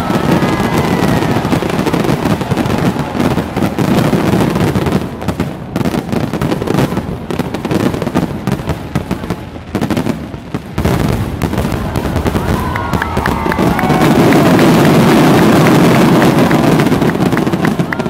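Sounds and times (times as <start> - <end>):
fireworks bangs and crackle: 0.0 - 18.0.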